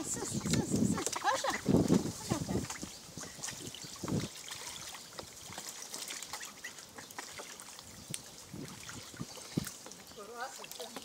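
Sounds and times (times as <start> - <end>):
ducklings calling: 0.0 - 5.0, 5.7 - 10.3
ducks splashing in water: 0.0 - 11.0.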